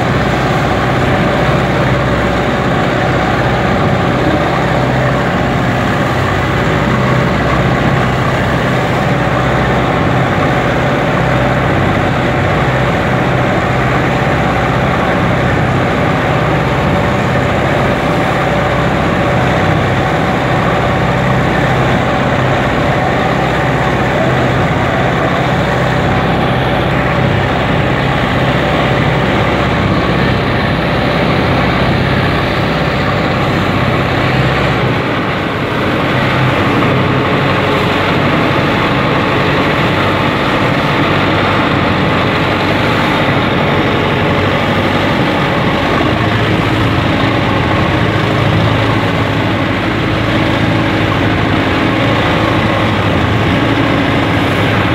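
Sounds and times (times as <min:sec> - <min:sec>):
boat engines running: 0:00.0 - 0:54.9
water rushing along hulls: 0:00.0 - 0:54.9.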